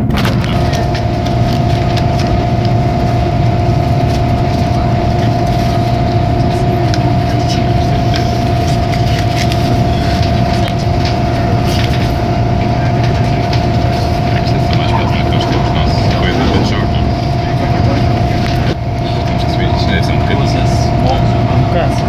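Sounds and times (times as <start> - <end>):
steady train whine: 0.0 - 22.0
train rumble: 0.0 - 22.0.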